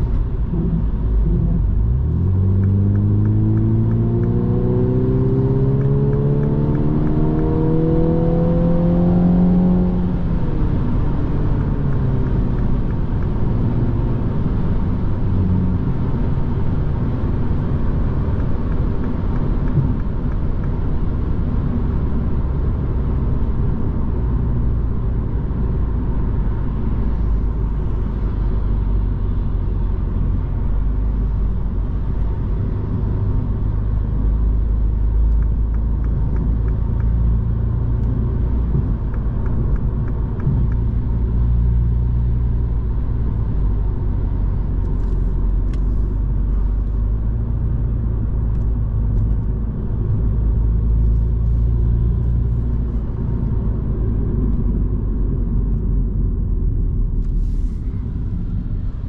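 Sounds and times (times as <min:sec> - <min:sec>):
car engine running: 0:00.0 - 0:59.0
tyres rumbling on road: 0:00.0 - 0:59.0.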